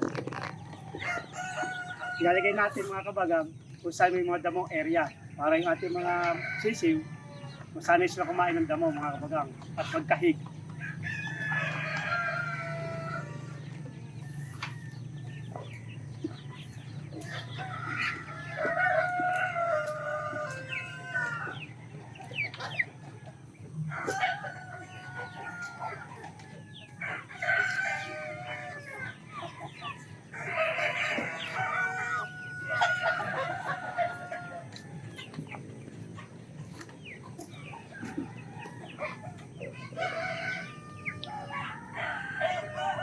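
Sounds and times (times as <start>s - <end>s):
chickens clucking: 0.0s - 43.0s
roosters crowing: 0.0s - 43.0s.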